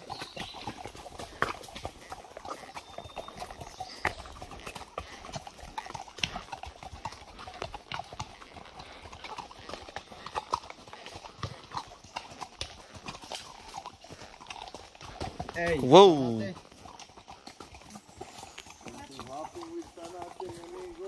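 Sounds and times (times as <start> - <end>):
horse hooves clip-clopping: 0.0 - 21.0.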